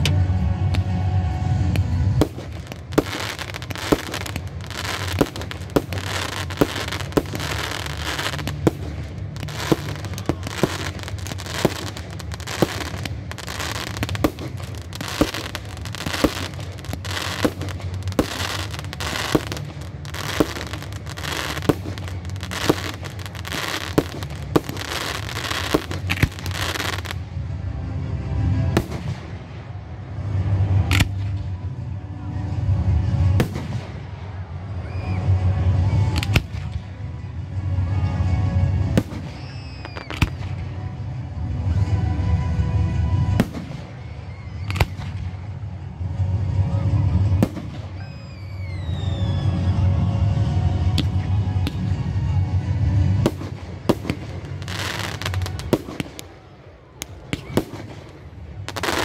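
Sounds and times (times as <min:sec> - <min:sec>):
fireworks crackling: 0:00.0 - 0:27.5, 0:28.5 - 0:31.5, 0:32.8 - 0:37.1, 0:38.0 - 0:59.0
low rumble: 0:00.0 - 0:54.6.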